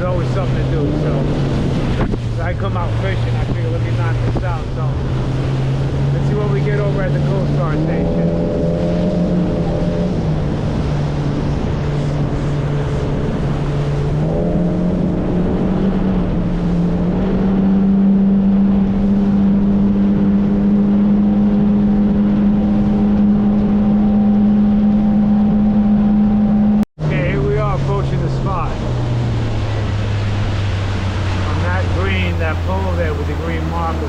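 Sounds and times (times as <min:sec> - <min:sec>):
boat engine running: 0:00.0 - 0:34.0
continuous rushing noise: 0:00.0 - 0:34.0.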